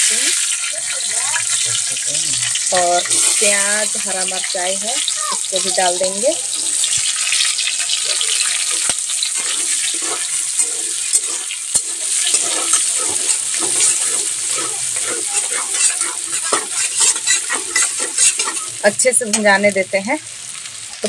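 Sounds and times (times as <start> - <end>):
vegetables sizzling in hot oil: 0.0 - 21.0
spatula scraping pan: 0.6 - 19.5.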